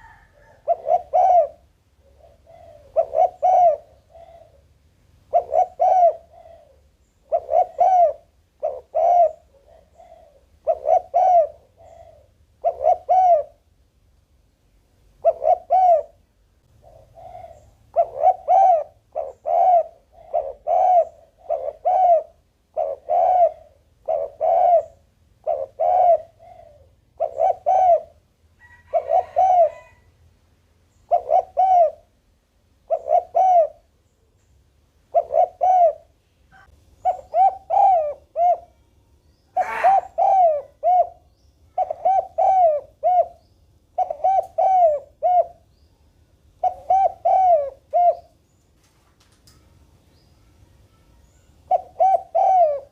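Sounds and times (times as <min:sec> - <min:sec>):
dove cooing: 0:00.0 - 0:13.7, 0:15.2 - 0:30.1, 0:31.0 - 0:32.1, 0:32.8 - 0:34.2, 0:35.1 - 0:38.9, 0:39.5 - 0:45.8, 0:46.6 - 0:48.5, 0:51.1 - 0:52.9.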